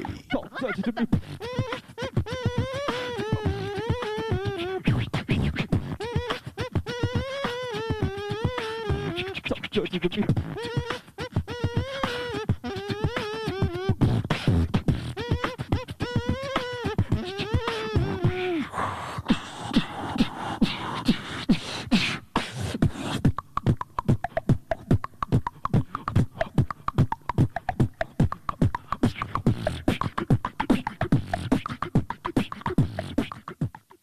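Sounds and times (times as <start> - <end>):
sung gliding vocal line: 0.0 - 5.1, 5.8 - 22.1, 23.1 - 33.8
beatboxing: 0.0 - 34.0.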